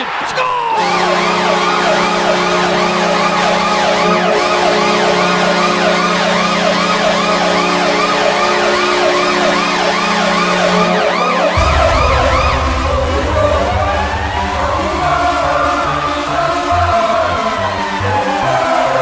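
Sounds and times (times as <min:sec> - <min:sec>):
low goal horn blast: 0:00.8 - 0:18.9
wailing siren: 0:00.8 - 0:19.0.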